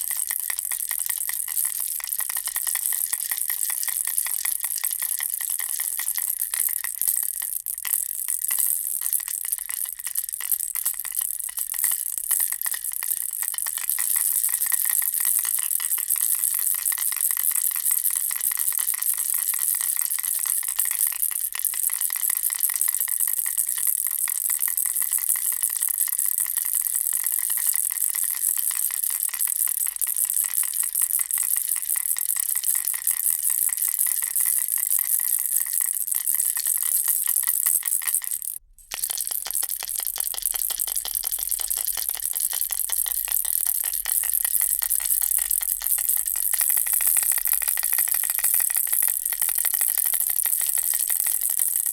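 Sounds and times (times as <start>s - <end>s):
baby rattle shaking: 0.0s - 51.9s.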